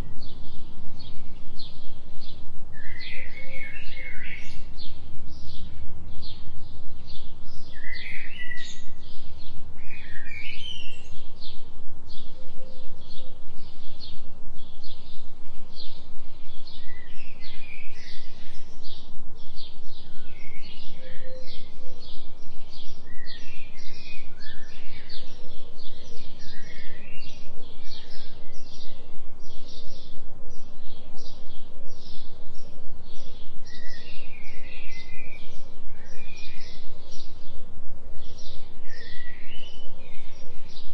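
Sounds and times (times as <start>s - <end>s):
birds chirping and calling: 0.0s - 40.9s
steady low hum: 0.0s - 40.9s.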